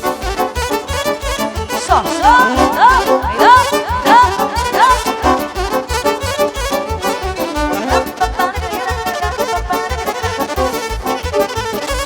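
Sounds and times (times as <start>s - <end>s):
live band party music: 0.0s - 12.0s.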